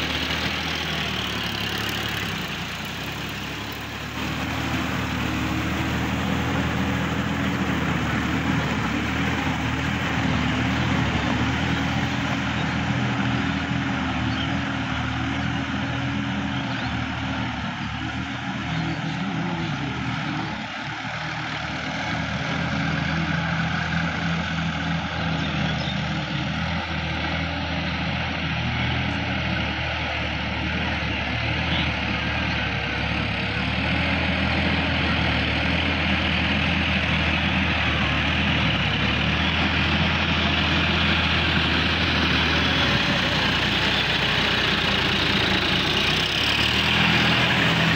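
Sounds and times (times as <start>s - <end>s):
diesel tractor engine under load: 0.0s - 47.9s.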